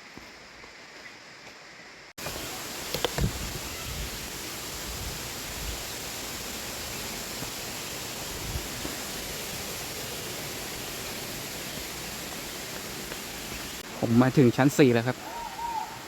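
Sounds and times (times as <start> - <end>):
waterfall rushing: 2.2 - 16.0.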